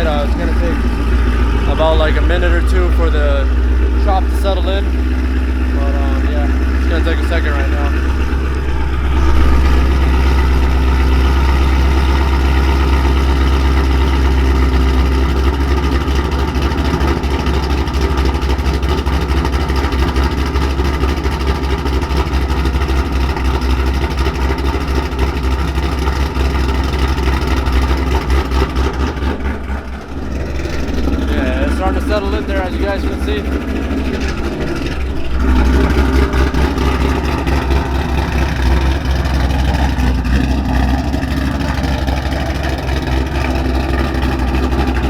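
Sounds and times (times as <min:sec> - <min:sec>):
car engine idling with choppy lope: 0:00.0 - 0:45.0.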